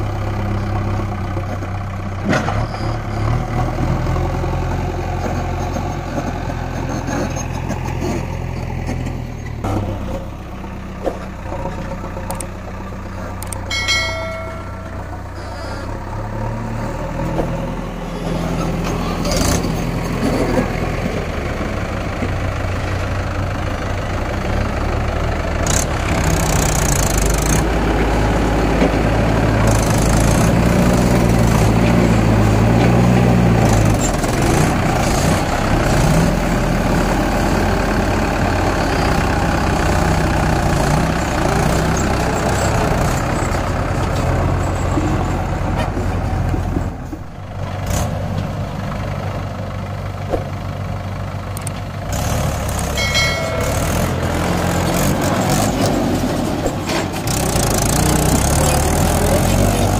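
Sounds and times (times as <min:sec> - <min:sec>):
tractor diesel engine working: 0:00.0 - 0:59.9.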